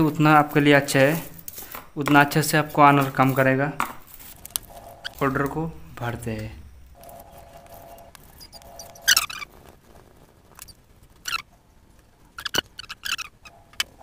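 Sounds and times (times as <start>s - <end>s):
aluminium foil crinkling: 0.0s - 5.6s, 7.0s - 12.8s.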